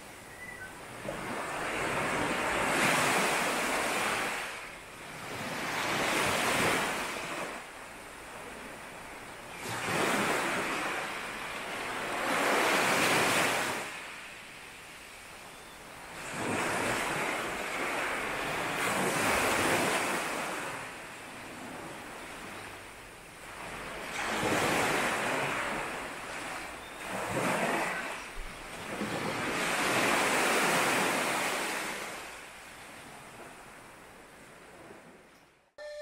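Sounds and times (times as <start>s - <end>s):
sea waves washing onto beach: 0.8s - 15.3s, 16.0s - 35.2s.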